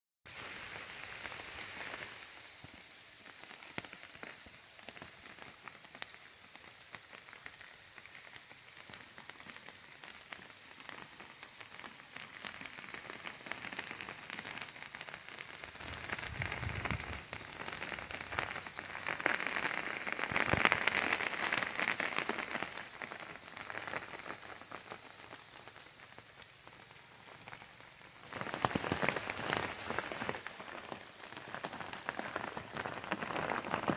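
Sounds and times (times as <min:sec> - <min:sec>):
rain pattering on leaves: 0:00.3 - 0:33.9.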